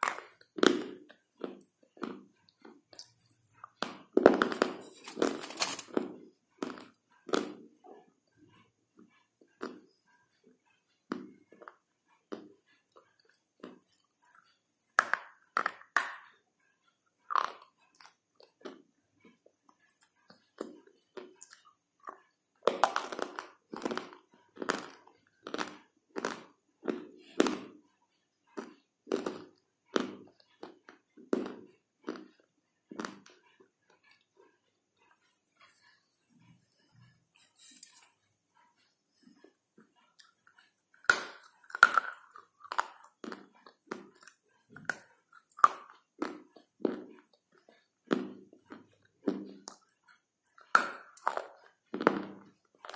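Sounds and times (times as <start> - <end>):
crunching chewing of mineral block: 0.0 - 8.0, 11.1 - 27.8, 28.5 - 36.0, 38.8 - 52.9.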